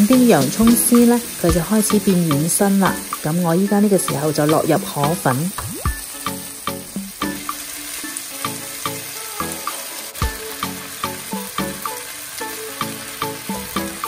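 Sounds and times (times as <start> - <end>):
food sizzling in a pan: 0.0 - 14.0
background music with plucked notes: 0.1 - 14.0.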